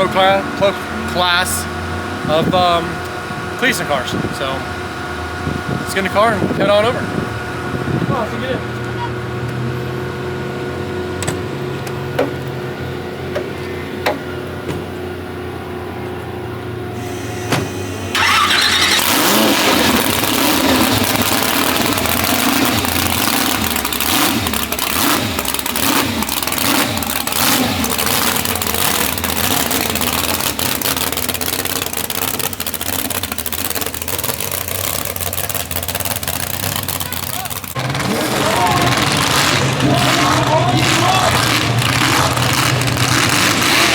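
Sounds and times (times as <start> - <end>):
drag car engine revving: 0.0 - 43.9.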